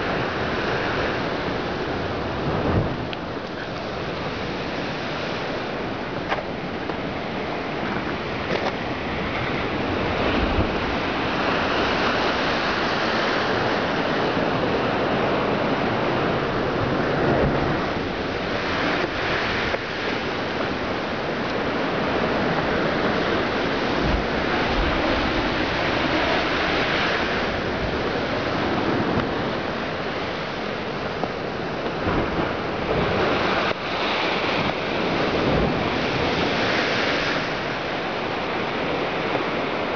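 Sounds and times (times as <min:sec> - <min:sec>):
surf breaking on rocks: 0:00.0 - 0:39.9
wind on microphone: 0:00.0 - 0:39.9.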